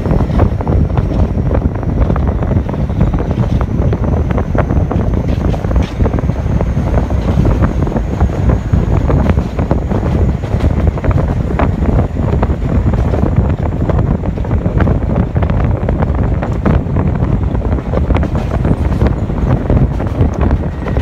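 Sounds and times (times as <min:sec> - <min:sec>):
rushing wind noise: 0:00.0 - 0:21.0
subway train wheels rumbling on rail: 0:00.0 - 0:21.0
sharp clicks and clacks: 0:00.1 - 0:21.0.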